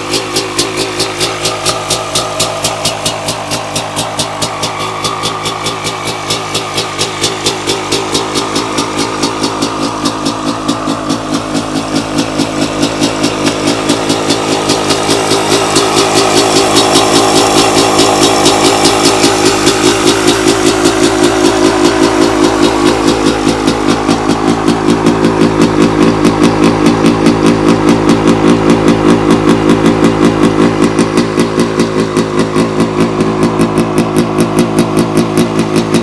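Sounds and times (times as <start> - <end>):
two-stroke engine idling: 0.0 - 36.0.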